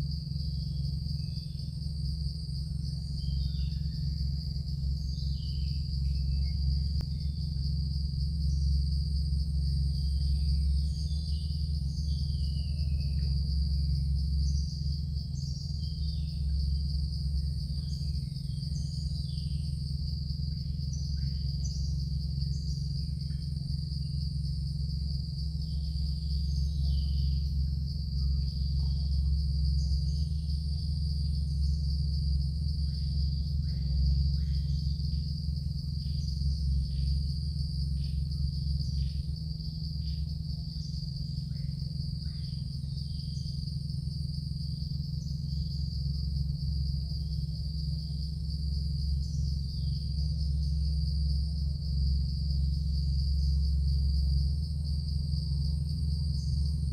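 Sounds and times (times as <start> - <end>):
insects droning: 0.0 - 56.9
steady low hum: 0.0 - 56.9.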